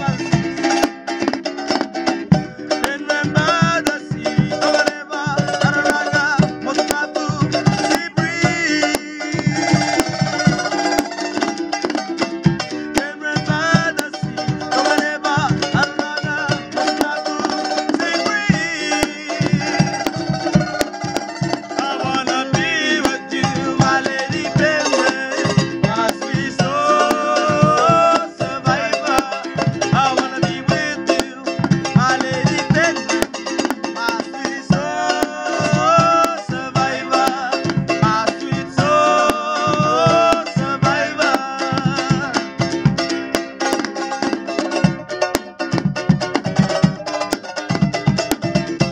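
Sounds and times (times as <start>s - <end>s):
men singing: 0.0s - 0.9s, 2.0s - 11.3s, 12.6s - 42.8s
fast-strummed ukuleles: 0.0s - 48.9s
small drum beat: 0.0s - 48.9s.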